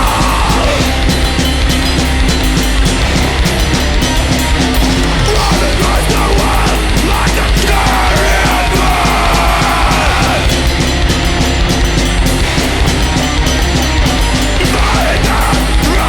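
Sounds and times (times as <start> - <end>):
distorted electric guitars: 0.0 - 16.0
drums and cymbals: 0.0 - 16.0.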